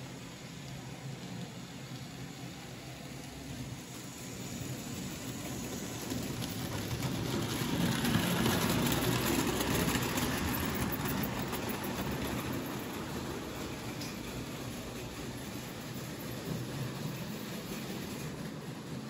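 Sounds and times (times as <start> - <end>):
model train whirring on track: 0.0 - 19.0.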